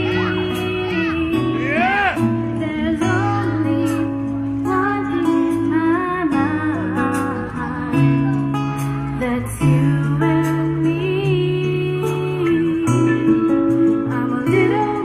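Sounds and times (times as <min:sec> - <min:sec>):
electric guitar: 0:00.0 - 0:15.0
woman singing into a microphone: 0:00.0 - 0:15.0.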